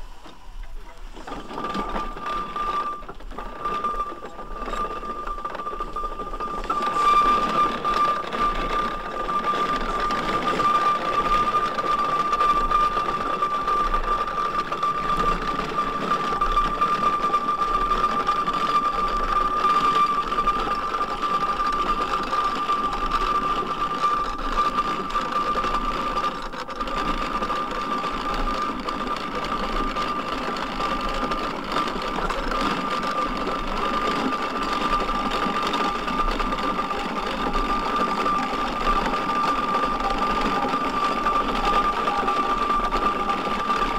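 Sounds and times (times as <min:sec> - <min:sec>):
steam engine mechanical clatter: 0:00.0 - 0:43.9.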